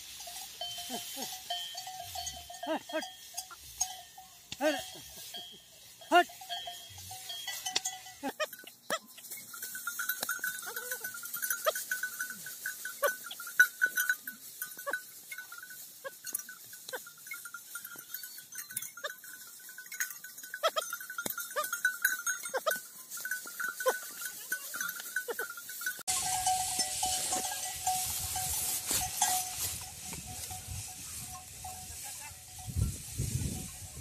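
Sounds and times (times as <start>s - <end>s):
hooves treading on straw: 0.0s - 34.0s.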